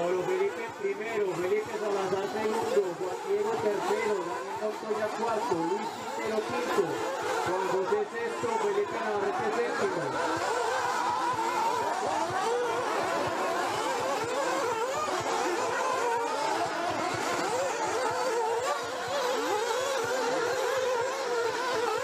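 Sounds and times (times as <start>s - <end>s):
rc buggy engines whining: 0.0s - 22.0s.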